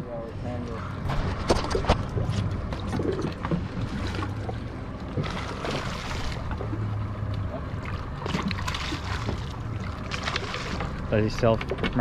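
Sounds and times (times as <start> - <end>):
low steady hum: 0.0 - 12.0
water noise: 0.0 - 12.0
wind: 0.0 - 12.0.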